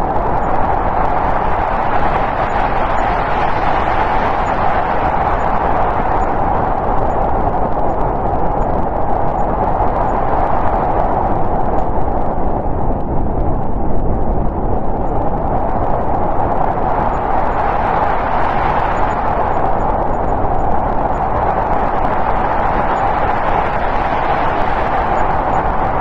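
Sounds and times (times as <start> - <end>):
snowstorm wind rushing: 0.0 - 26.0.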